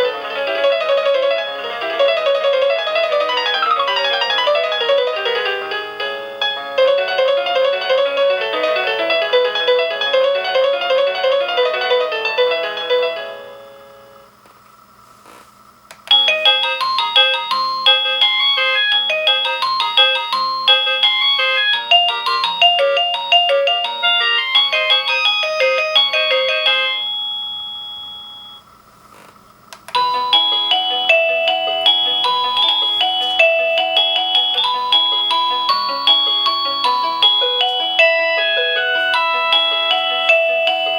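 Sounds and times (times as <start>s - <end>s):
electronic doorbell chime melodies: 0.0s - 13.4s, 16.1s - 28.7s, 30.0s - 40.9s.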